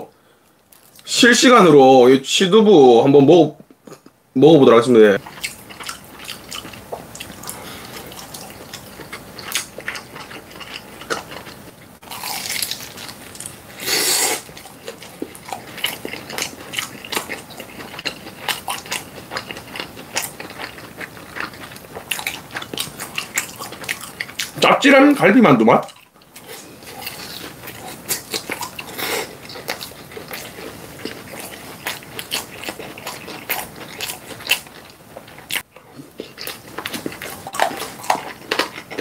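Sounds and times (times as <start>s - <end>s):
wet chewing: 5.2s - 24.7s, 25.8s - 39.0s.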